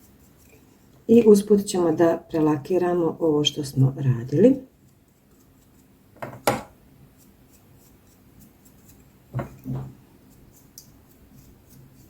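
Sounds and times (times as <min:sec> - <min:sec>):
paintbrush scratchy strokes: 0:00.0 - 0:06.0, 0:07.1 - 0:12.0.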